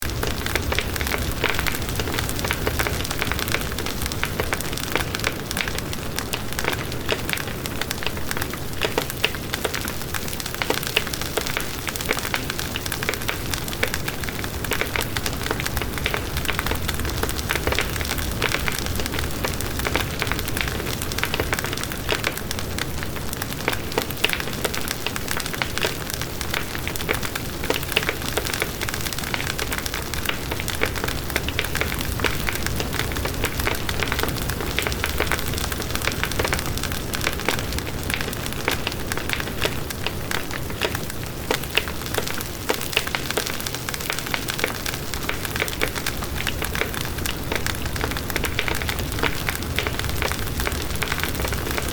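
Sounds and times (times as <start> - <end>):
fire crackling and popping: 0.0 - 51.9.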